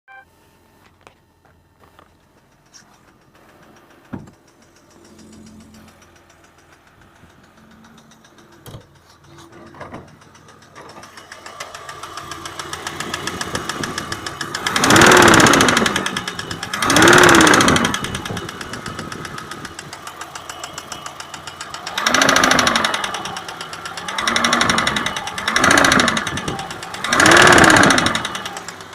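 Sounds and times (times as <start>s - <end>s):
car engine idling and revving: 0.1s - 28.9s
engine knock: 2.1s - 28.9s.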